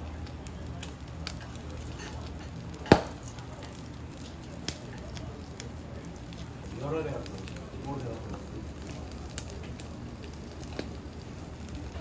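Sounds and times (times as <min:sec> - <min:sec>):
charcoal crackling ticks: 0:00.0 - 0:12.0.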